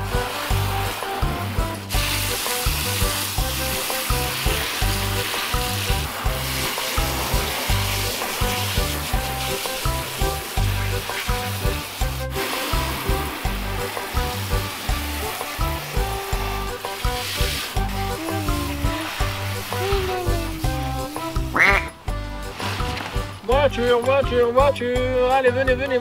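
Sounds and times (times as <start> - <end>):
hose spray hissing and spattering: 0.0 - 23.6
background music with beat: 0.0 - 26.0.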